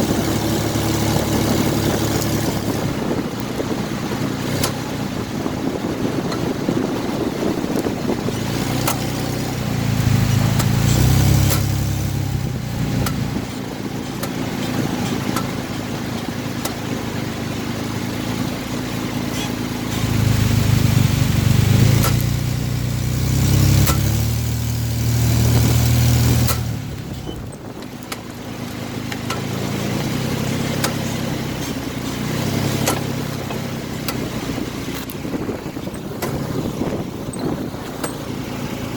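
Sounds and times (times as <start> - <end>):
car engine running: 0.0 - 38.9
sharp engine knocks: 0.0 - 38.9.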